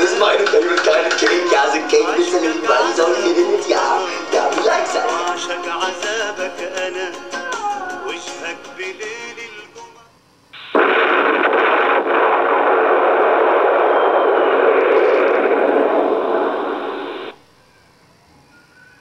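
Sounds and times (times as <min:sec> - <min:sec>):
static hiss: 0:00.0 - 0:17.6.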